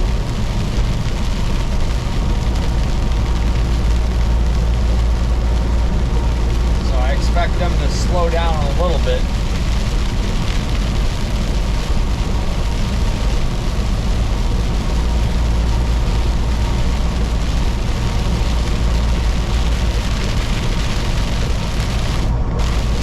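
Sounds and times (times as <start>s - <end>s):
road and tyre noise: 0.0s - 23.0s
truck diesel engine droning: 0.0s - 23.0s.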